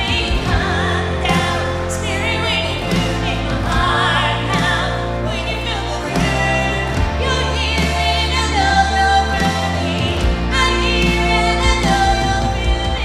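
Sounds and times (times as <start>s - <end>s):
electric guitar: 0.0s - 13.0s
sustained bass: 0.0s - 13.0s
women singing worship song: 0.0s - 13.0s.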